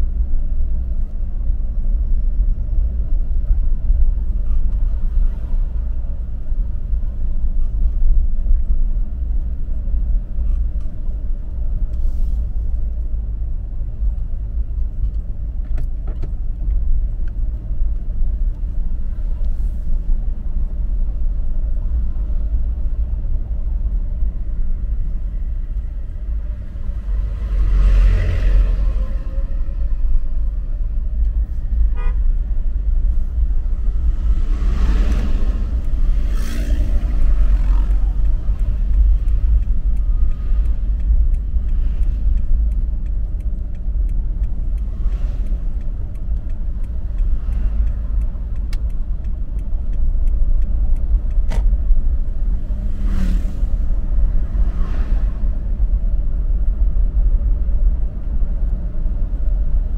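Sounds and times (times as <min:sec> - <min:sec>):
vehicle driving on road: 0:00.0 - 0:59.9.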